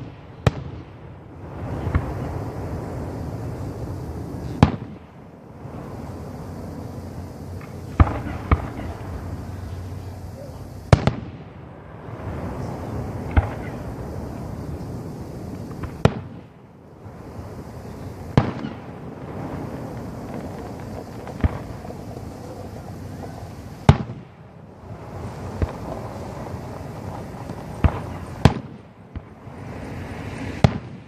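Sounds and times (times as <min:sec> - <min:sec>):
background hiss and rumble: 0:00.0 - 0:31.0
fireworks booming: 0:00.0 - 0:31.0.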